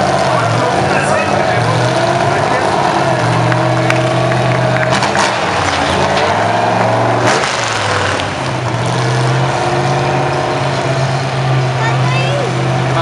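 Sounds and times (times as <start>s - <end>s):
tractor engine revving: 0.0s - 13.0s.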